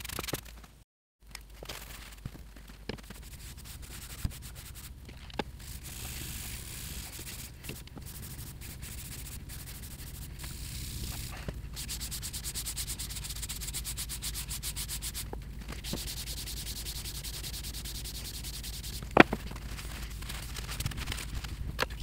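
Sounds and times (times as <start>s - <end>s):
pad scrubbing on metal: 3.0s - 21.3s.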